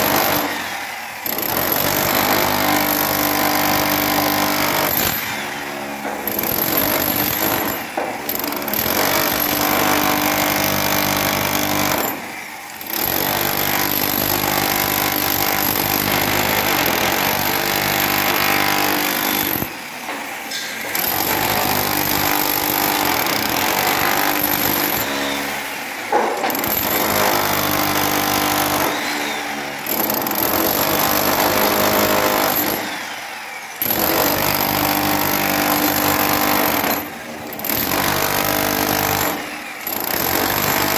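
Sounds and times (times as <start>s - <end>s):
demolition hammer chiselling concrete: 0.0s - 40.9s.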